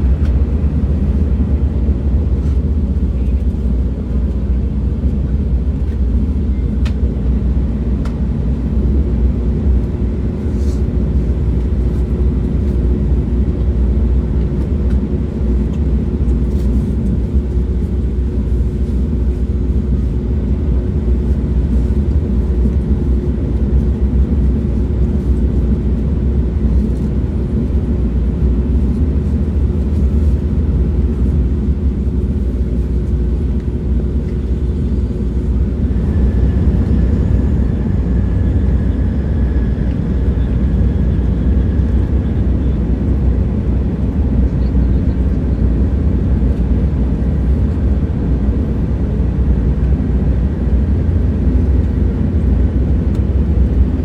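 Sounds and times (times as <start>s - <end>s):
constant hum: 0.0s - 54.0s
train rumbling: 0.0s - 54.0s.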